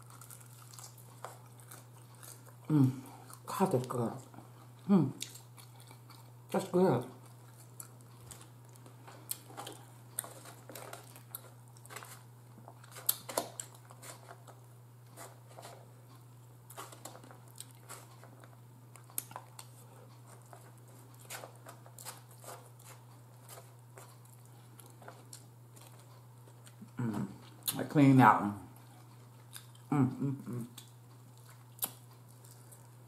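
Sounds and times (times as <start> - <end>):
chewing crunchy food: 0.0 - 27.8, 28.7 - 33.0
steady low hum: 0.0 - 33.0.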